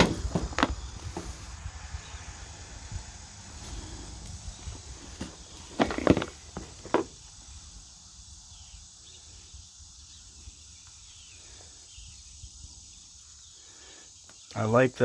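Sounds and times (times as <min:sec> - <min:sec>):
crickets droning: 0:00.0 - 0:15.0.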